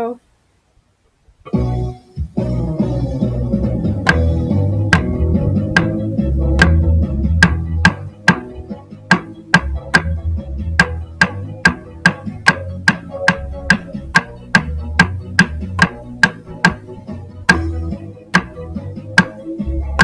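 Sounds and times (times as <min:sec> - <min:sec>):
soft backing track with bass: 0:00.0 - 0:20.0
wooden clicks keeping a beat: 0:01.5 - 0:20.0.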